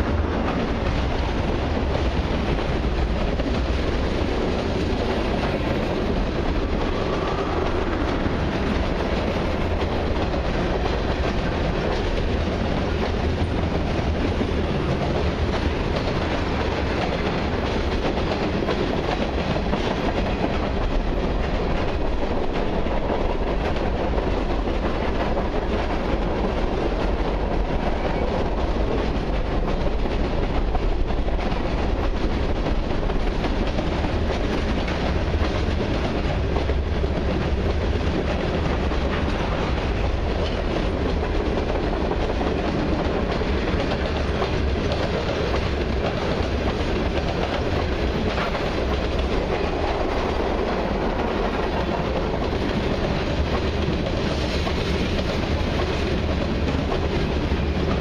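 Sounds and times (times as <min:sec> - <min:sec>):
freight train wheels on rails: 0:00.0 - 0:58.0
low train rumble: 0:00.0 - 0:58.0.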